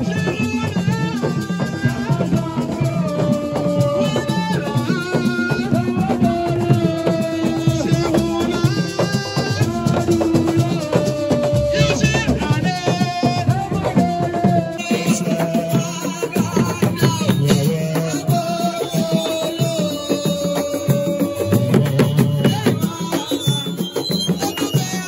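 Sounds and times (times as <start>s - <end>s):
fast drum percussion: 0.0s - 25.0s.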